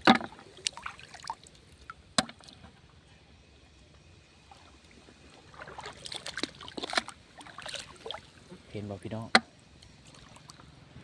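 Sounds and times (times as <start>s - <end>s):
pond water splashing: 0.0s - 2.9s, 4.2s - 10.9s.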